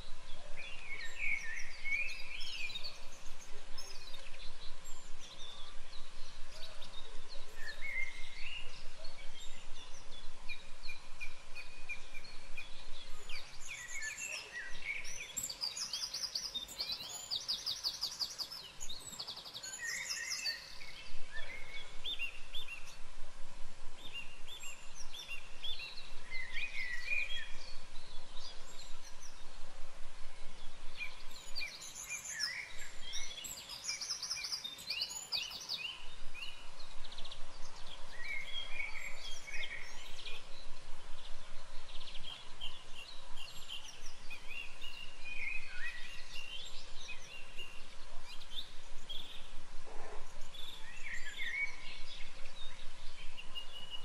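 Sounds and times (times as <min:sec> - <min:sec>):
wild birds singing: 0:00.0 - 0:54.0.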